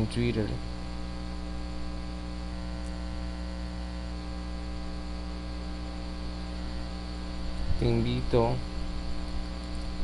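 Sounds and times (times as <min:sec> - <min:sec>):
constant hiss: 0:00.0 - 0:10.0
electrical mains hum: 0:00.0 - 0:10.0.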